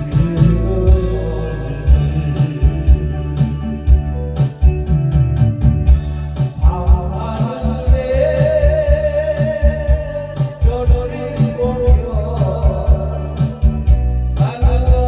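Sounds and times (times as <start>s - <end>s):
person singing with vibrato: 0.0s - 5.0s, 6.4s - 15.0s
trot song with drum and bass: 0.0s - 15.0s.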